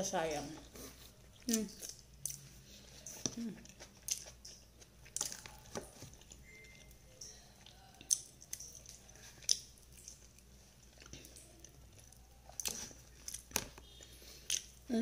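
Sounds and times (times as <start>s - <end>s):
person chewing with wet smacks: 0.5s - 15.0s.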